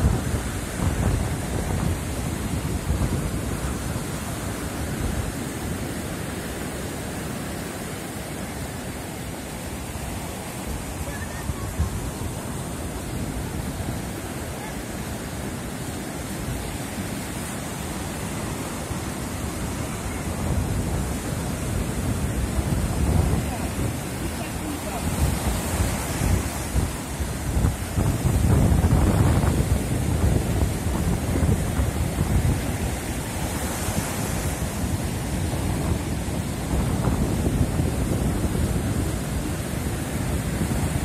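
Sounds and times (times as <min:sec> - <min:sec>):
waves breaking on sand: 0:00.0 - 0:41.0.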